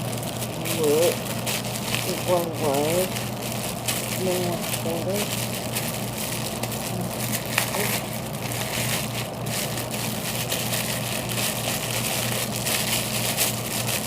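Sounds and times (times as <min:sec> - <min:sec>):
packaging rustling and crinkling: 0:00.0 - 0:14.0
steady low hum: 0:00.0 - 0:14.0.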